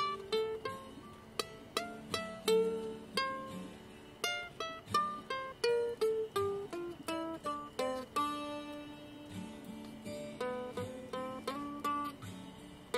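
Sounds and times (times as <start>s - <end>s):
plucked string instrument melody: 0.0s - 12.9s.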